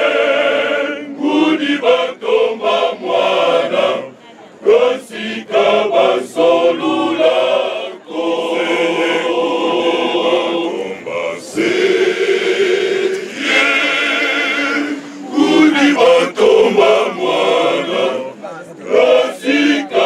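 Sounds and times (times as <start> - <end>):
men's choir singing a cappella: 0.0 - 20.0.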